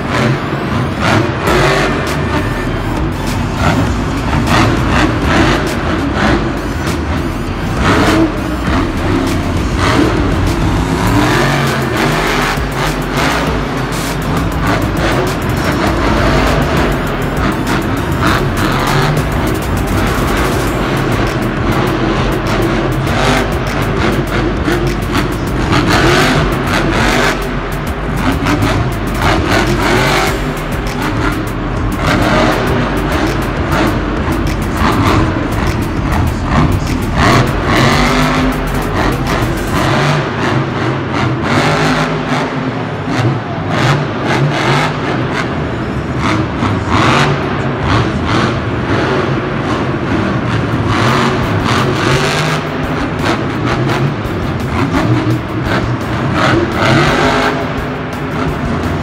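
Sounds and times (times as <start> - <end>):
truck engine revving hard: 0.0 - 59.0
music: 0.1 - 41.9, 50.5 - 59.0.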